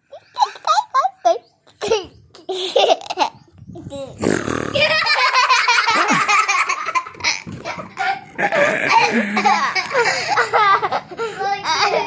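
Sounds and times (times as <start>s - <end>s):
children laughing: 0.0s - 12.0s.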